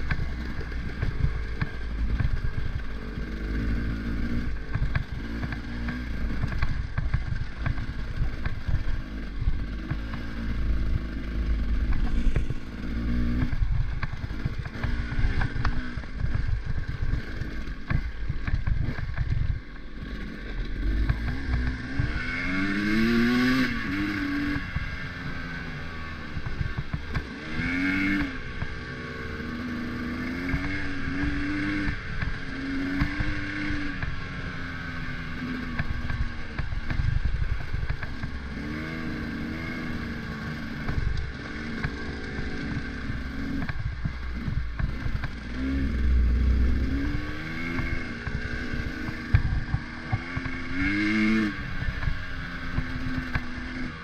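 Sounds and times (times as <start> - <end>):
road rumble: 0.0 - 54.0
vehicle engine driving: 0.0 - 54.0.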